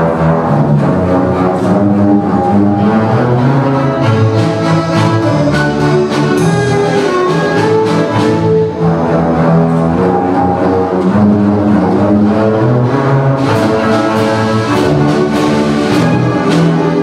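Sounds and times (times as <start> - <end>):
double bass ensemble bowing: 0.0 - 17.0.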